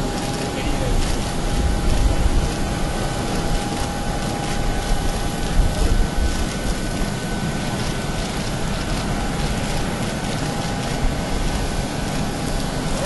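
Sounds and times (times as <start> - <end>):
jet engine roar: 0.0 - 13.0
thin steady whine: 0.0 - 13.0.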